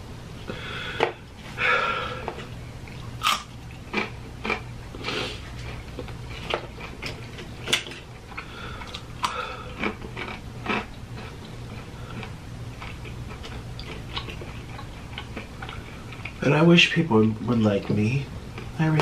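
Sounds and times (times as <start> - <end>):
steady low hum: 0.0 - 19.0
crunching and chewing food: 0.9 - 19.0.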